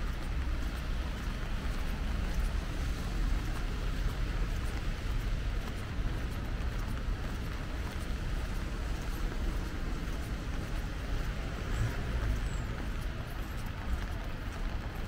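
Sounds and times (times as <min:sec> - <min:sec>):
heavy rain on a street: 0:00.0 - 0:15.0.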